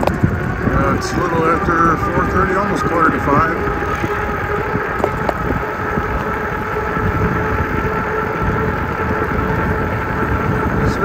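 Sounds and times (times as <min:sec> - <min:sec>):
steady multi-tone hum: 0:00.0 - 0:11.0
wind on microphone: 0:00.0 - 0:11.0.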